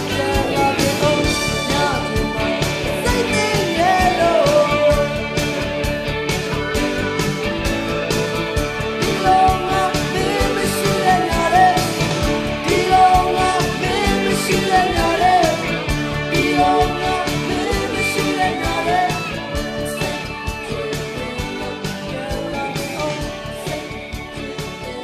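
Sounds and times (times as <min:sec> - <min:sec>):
person singing: 0:00.0 - 0:06.2, 0:08.9 - 0:25.0
guitar: 0:00.0 - 0:25.0
steady drum beat: 0:00.0 - 0:25.0.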